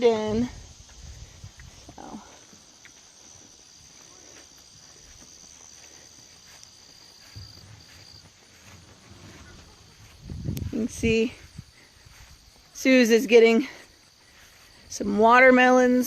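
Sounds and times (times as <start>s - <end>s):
lower insect trill: 0.0s - 15.6s.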